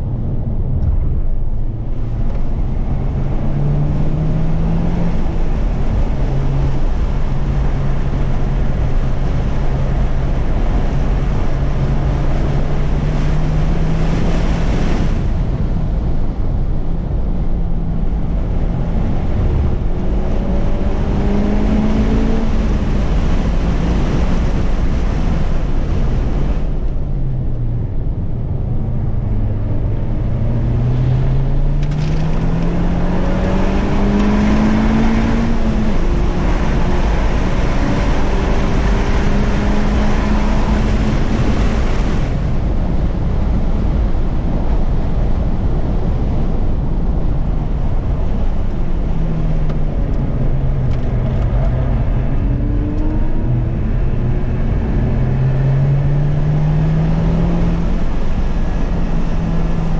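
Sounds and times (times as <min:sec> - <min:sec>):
car engine revving: 0:00.0 - 0:16.0, 0:17.8 - 0:26.8, 0:28.5 - 0:59.9
wind and road noise: 0:00.0 - 0:59.9.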